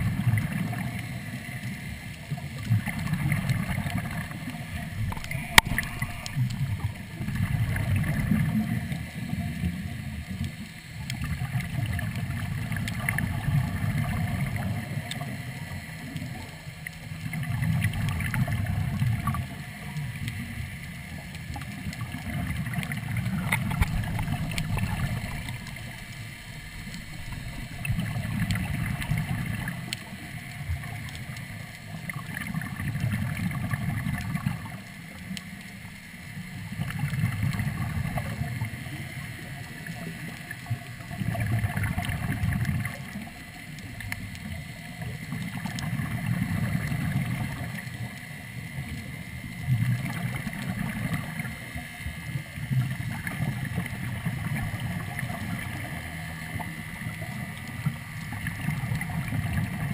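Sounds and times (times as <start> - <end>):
exhaled bubbles: 0.0 - 35.6, 36.4 - 59.9.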